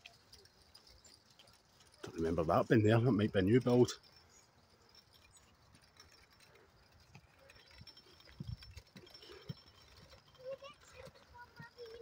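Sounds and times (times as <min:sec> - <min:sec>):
faint footsteps: 0:00.0 - 0:12.0.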